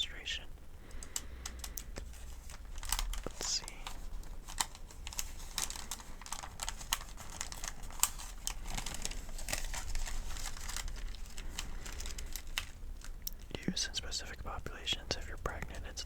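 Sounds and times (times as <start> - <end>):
thin paper crinkling: 1.0 - 14.3.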